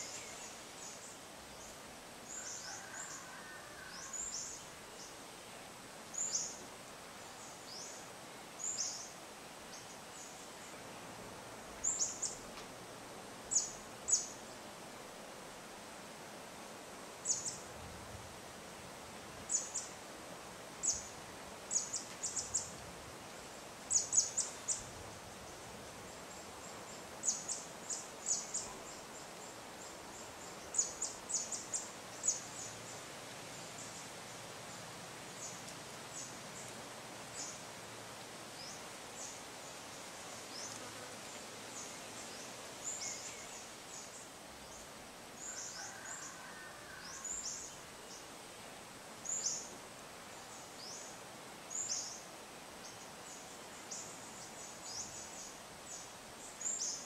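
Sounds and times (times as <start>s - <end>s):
light wind hiss: 0.0s - 57.0s.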